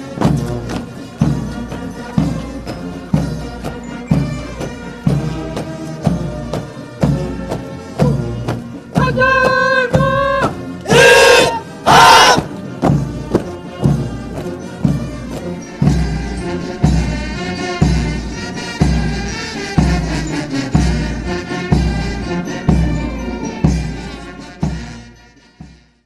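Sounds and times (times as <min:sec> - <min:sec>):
heavy drum beat: 0:03.2 - 0:25.0.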